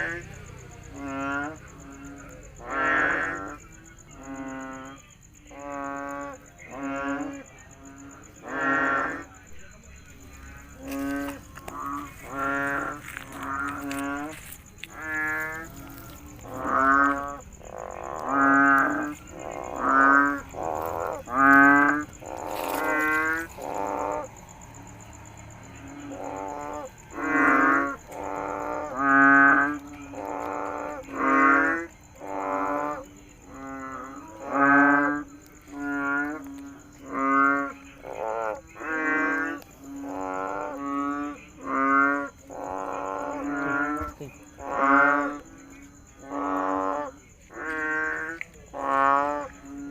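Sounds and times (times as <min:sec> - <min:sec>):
frogs croaking: 0:00.0 - 0:49.9.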